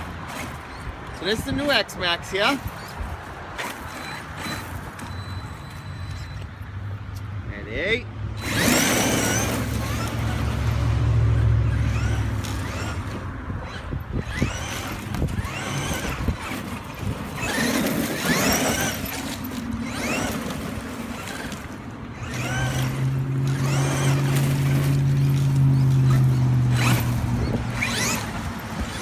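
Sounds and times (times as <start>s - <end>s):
electric motor whining: 0.0s - 6.5s, 8.4s - 29.0s.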